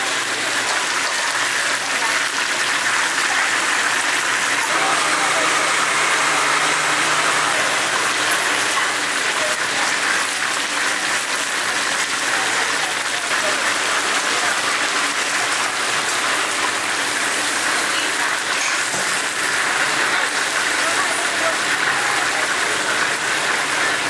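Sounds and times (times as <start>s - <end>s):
oil sizzling in deep fryer: 0.0s - 24.0s.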